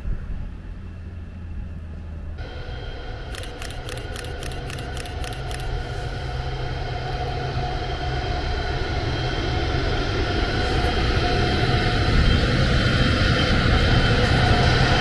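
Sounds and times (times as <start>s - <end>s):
electric locomotive passing: 0.0s - 15.0s.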